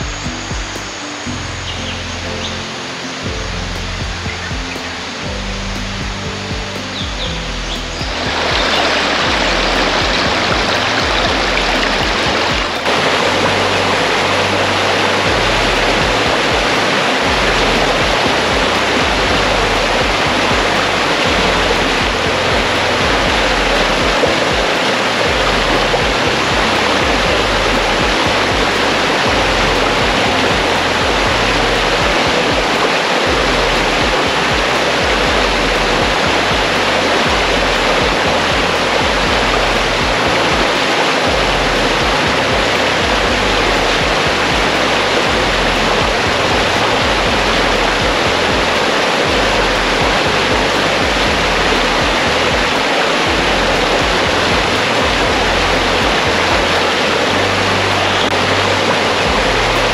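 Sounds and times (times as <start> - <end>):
background music with bass: 0.0 - 59.9
stream water flowing: 0.0 - 59.9.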